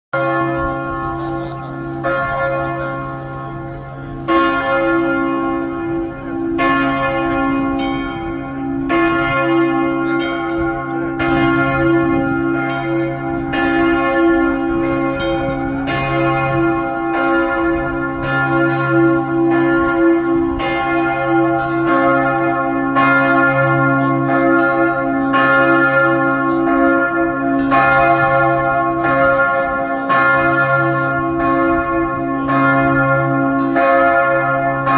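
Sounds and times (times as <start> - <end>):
church bells pealing: 0.2 - 34.9.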